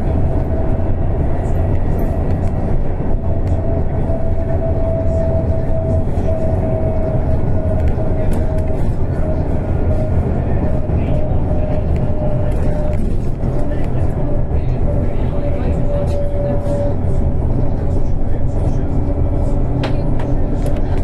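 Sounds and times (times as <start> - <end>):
low rumble of ride: 0.0 - 21.0.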